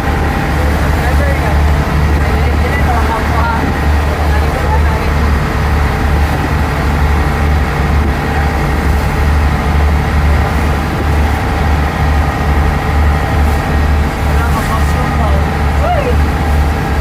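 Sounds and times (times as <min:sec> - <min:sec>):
ferry engine droning: 0:00.0 - 0:17.0.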